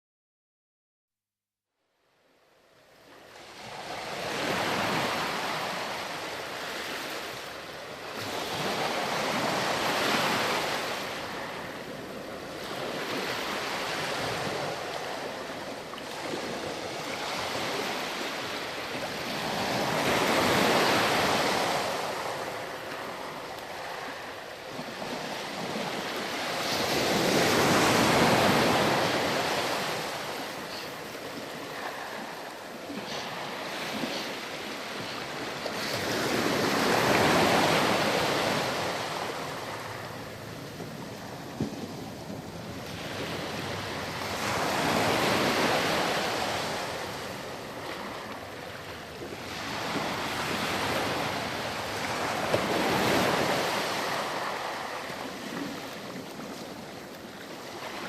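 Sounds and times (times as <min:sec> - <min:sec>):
ocean surf washing on beach: 0:02.9 - 0:58.0.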